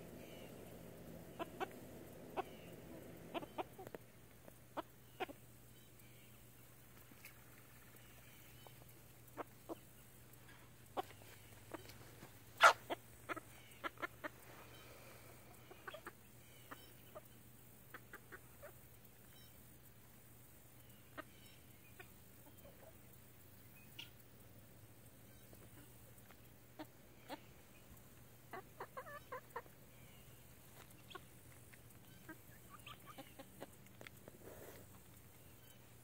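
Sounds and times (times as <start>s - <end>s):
chickens clucking: 0.0s - 36.0s.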